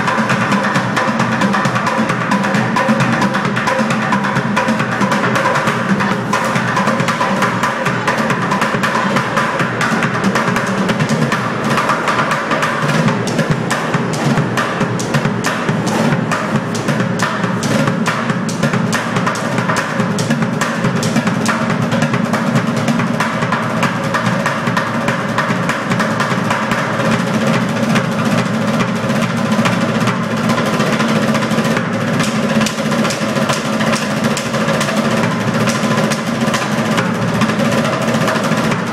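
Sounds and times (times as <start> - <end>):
sticks drumming on plastic buckets: 0.0 - 38.9.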